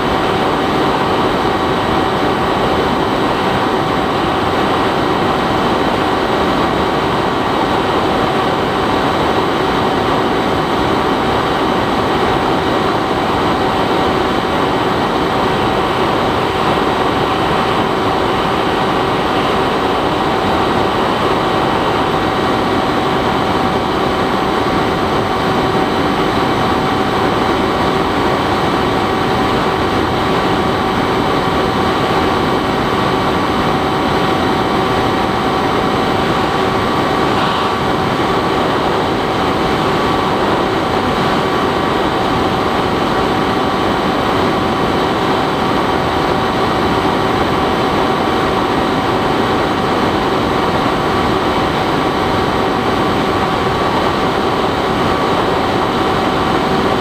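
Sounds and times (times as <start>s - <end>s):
rushing airflow: 0.0s - 57.0s.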